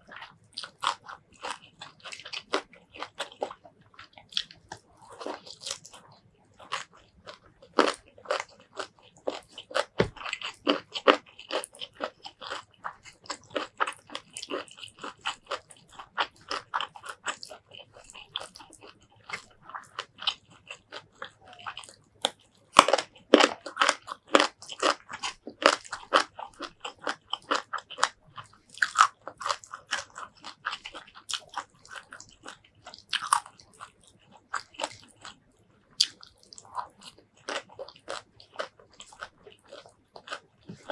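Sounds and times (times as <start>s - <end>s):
chewing with wet mouth clicks: 0.0s - 40.9s.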